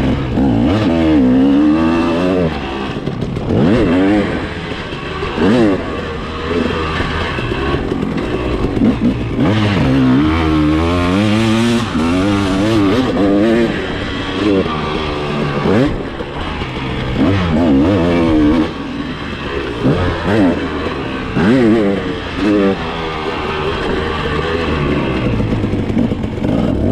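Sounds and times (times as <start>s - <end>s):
motocross bike engine revving: 0.0s - 26.9s.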